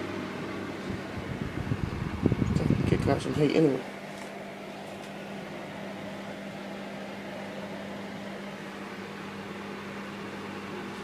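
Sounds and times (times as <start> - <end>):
fan heater blowing air: 0.0 - 11.0.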